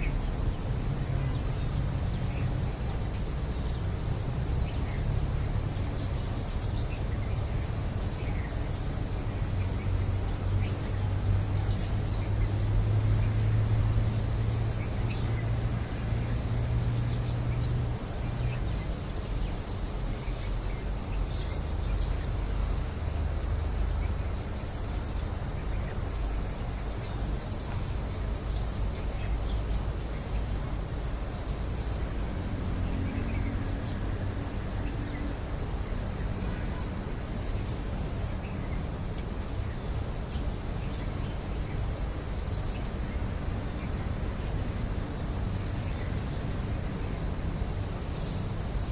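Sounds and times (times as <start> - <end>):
outdoor background noise: 0.0 - 48.9
small birds chirping: 0.0 - 48.9.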